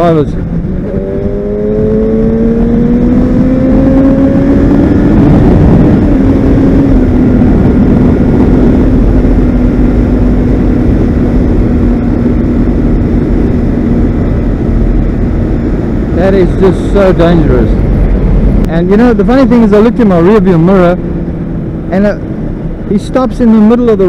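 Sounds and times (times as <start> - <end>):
motorcycle engine revving: 0.0 - 23.4
wind and road noise: 0.0 - 24.0.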